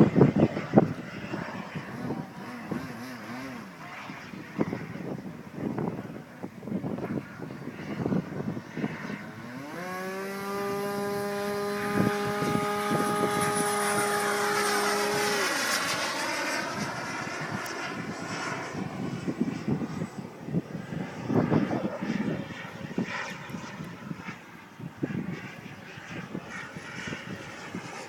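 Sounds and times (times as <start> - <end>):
model airplane motor whine: 0.0 - 28.0
wind gusts on microphone: 0.0 - 28.0.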